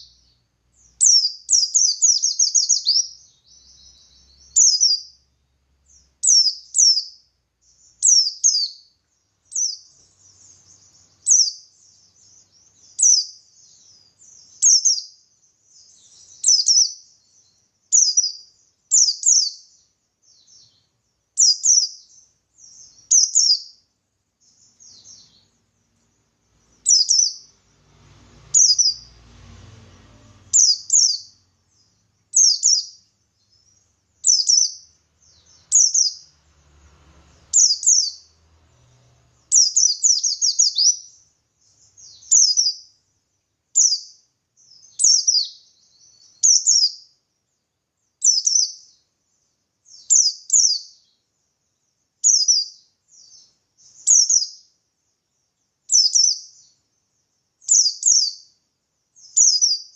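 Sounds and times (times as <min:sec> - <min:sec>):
bird singing high chirping phrases: 0:00.0 - 0:59.9.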